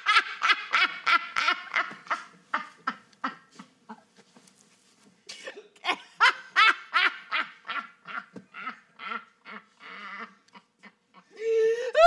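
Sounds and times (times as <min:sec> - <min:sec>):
woman laughing hard: 0:00.0 - 0:04.1, 0:05.4 - 0:12.0.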